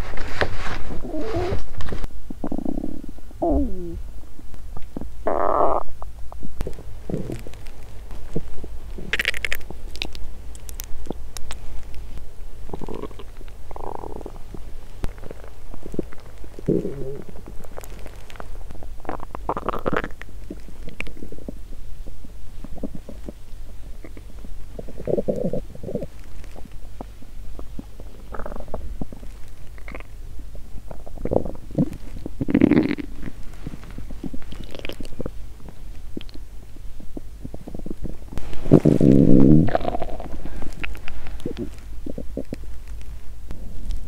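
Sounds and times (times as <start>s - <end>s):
stomach growling: 0.6s - 4.1s, 4.8s - 44.0s
stomach gurgles: 0.9s - 44.0s.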